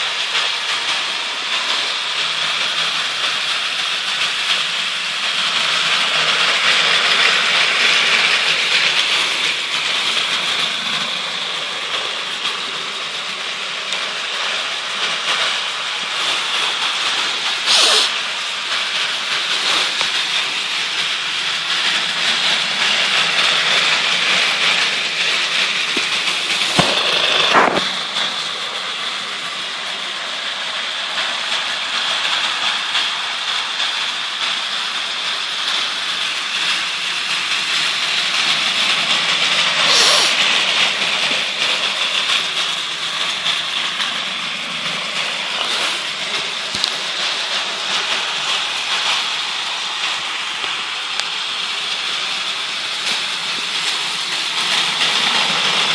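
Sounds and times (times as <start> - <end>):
toy train motors whirring: 0.0 - 55.9
train wheels rattling on track: 0.0 - 55.9.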